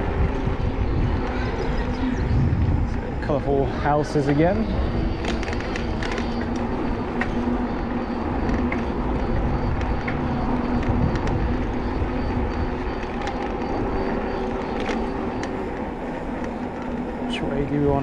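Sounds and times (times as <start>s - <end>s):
engine hum: 0.0s - 18.0s
traffic rumble: 0.0s - 18.0s.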